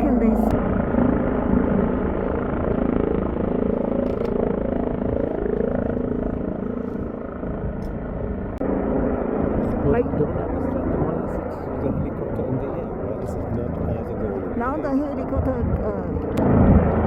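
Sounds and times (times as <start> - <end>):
helicopter hovering: 0.0 - 17.0.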